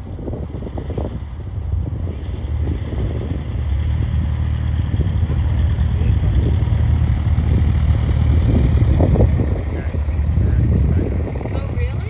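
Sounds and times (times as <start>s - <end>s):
piston aircraft engine rumble: 0.0s - 12.0s.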